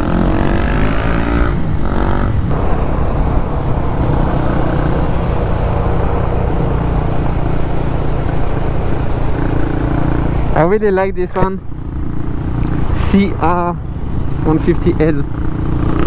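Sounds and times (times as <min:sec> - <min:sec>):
road noise: 0:00.0 - 0:16.0
motorcycle engine running: 0:01.8 - 0:10.9, 0:11.5 - 0:16.0.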